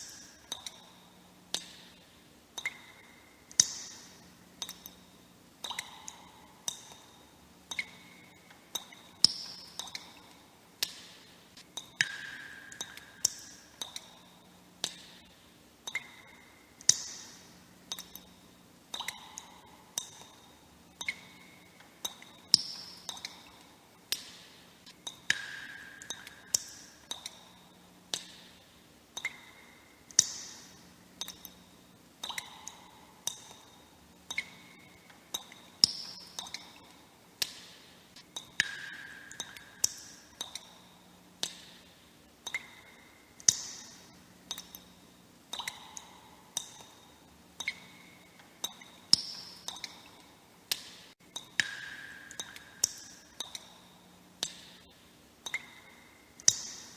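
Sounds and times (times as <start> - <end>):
water droplets dripping: 0.0 - 56.9.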